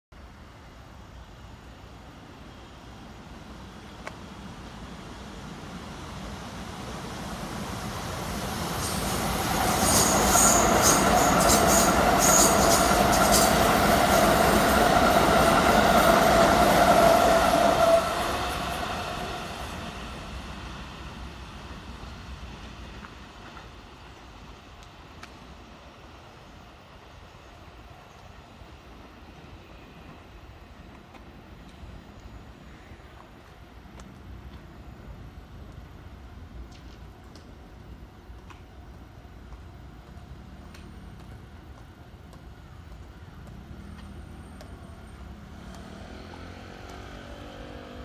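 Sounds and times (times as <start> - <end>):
electric train passing: 0.2 - 48.0.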